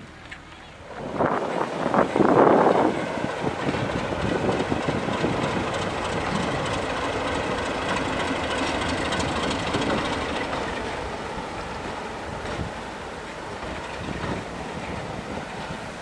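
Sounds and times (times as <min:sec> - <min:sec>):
diesel locomotive engine running: 0:00.0 - 0:16.0
wheel noise on rails: 0:00.0 - 0:16.0.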